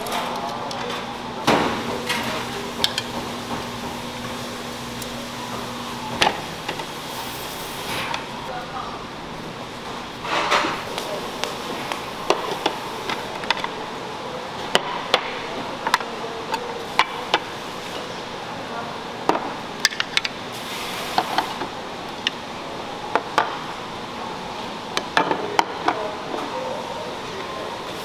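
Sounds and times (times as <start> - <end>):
room noise murmur: 0.0 - 28.0.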